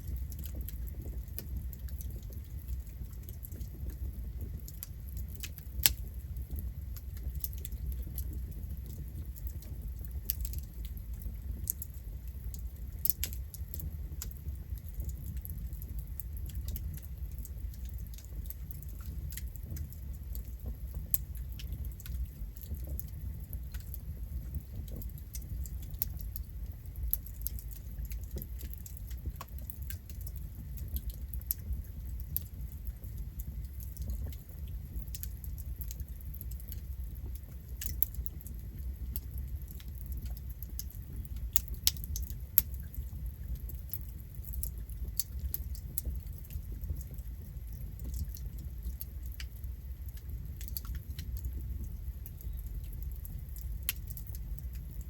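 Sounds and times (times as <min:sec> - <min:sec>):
campfire flames rumbling: 0:00.0 - 0:55.0
wood crackling and popping: 0:00.0 - 0:55.0.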